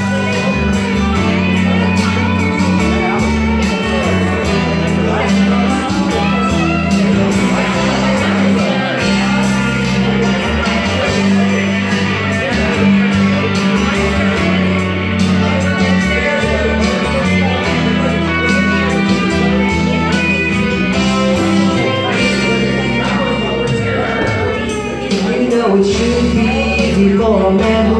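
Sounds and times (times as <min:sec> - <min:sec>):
electric guitar: 0:00.0 - 0:27.9
keyboard: 0:00.0 - 0:27.9.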